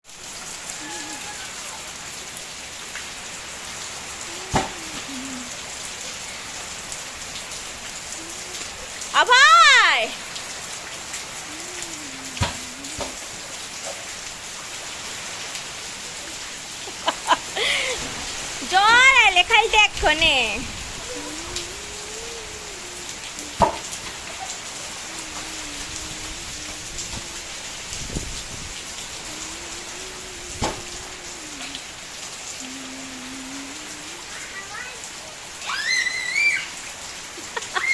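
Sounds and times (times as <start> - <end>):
rain pattering: 0.0 - 37.9
water drips: 0.4 - 37.9.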